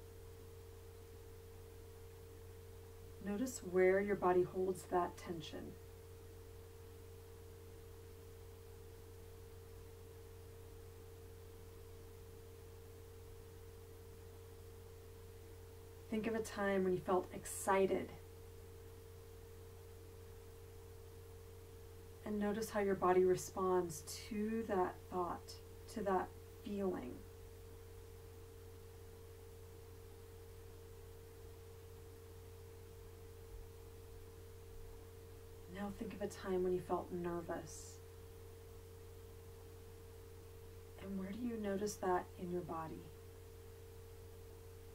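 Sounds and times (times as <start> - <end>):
constant pure tone: 0.0 - 44.9
faint low hum: 0.0 - 44.9
soft hiss: 0.0 - 44.9.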